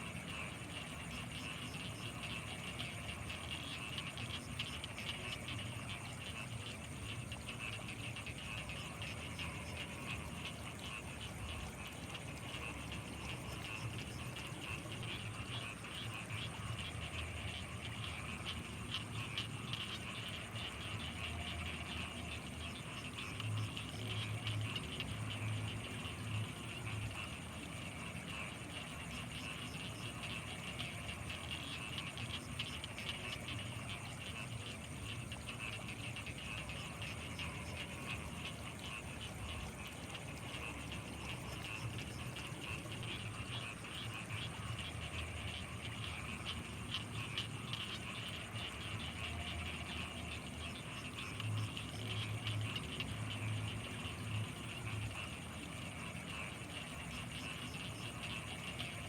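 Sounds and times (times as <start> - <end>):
frogs calling: 0.0 - 59.0.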